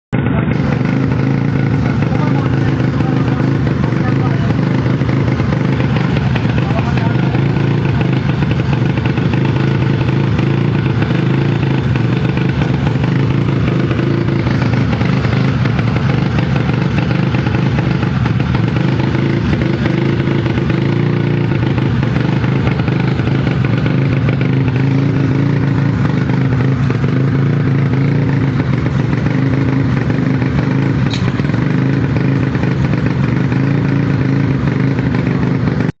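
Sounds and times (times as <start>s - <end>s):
scooter engine running steadily: 0.1s - 36.0s.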